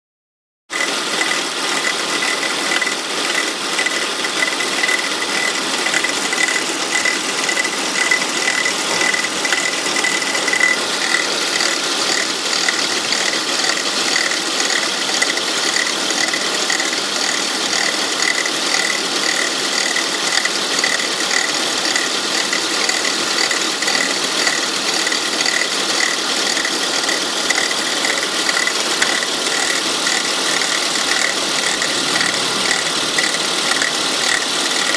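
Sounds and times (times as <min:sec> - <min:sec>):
rapid clicking from pulley: 0:00.7 - 0:34.9
car engine idling: 0:01.5 - 0:34.9.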